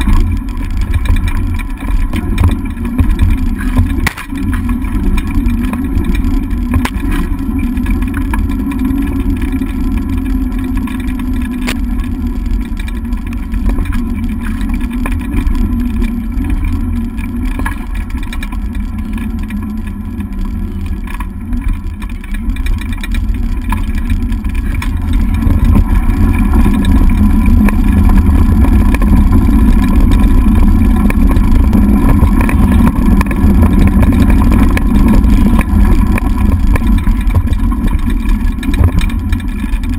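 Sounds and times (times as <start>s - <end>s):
scooter wheels rumbling on dirt: 0.0s - 39.9s
small rattles from bumps: 0.0s - 39.9s
wind on microphone: 0.0s - 39.9s.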